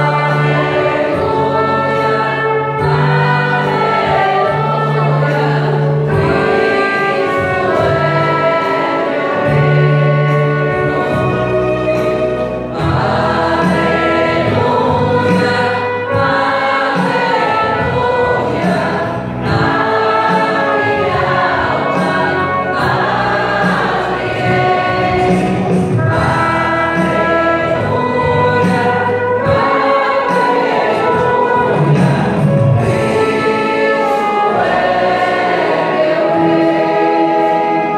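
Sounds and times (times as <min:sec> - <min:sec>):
keyboard: 0:00.0 - 0:37.9
trumpet: 0:00.0 - 0:37.9
voices singing a hymn: 0:00.0 - 0:37.9.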